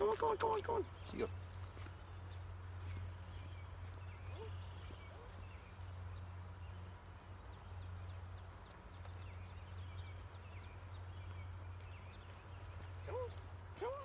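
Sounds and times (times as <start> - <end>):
birds chirping: 0.0 - 14.0
footsteps on paved road: 0.0 - 14.0.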